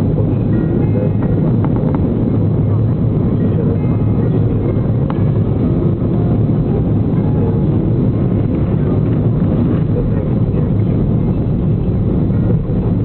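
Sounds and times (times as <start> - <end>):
jet engine roar in cabin: 0.0 - 13.0.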